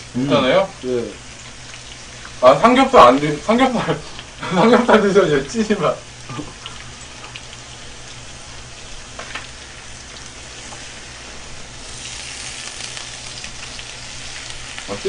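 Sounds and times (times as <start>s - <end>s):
food sizzling on griddle: 0.0s - 15.0s.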